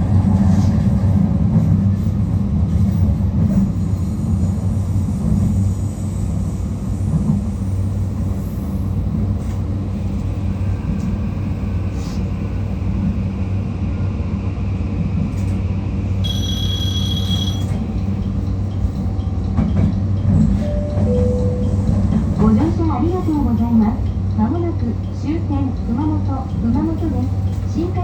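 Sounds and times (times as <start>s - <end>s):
train wheels and motors rumbling: 0.0s - 28.0s.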